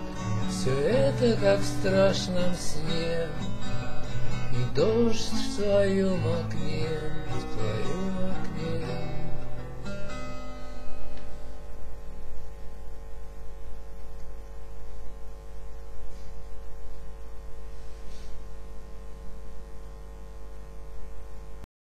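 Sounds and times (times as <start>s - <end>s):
low electrical mains hum: 0.0s - 21.7s.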